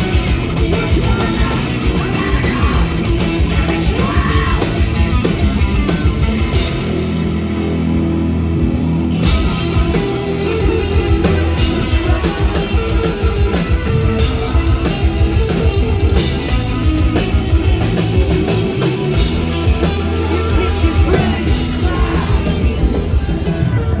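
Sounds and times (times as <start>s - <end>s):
loud rock music: 0.0s - 24.0s.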